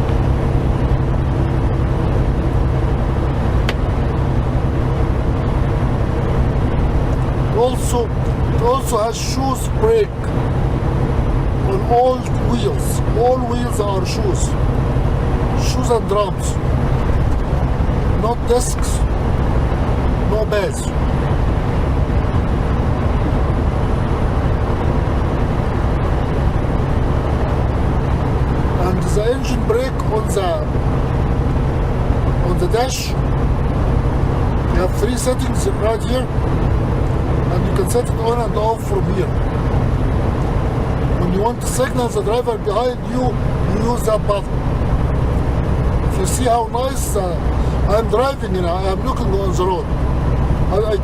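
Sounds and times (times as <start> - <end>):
diesel truck engine drone: 0.0 - 51.0
road noise: 0.0 - 51.0.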